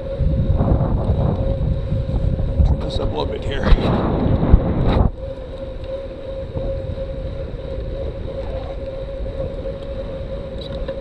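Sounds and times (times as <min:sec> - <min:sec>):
bicycle tyre hum: 0:00.0 - 0:11.0
low road rumble: 0:00.0 - 0:11.0.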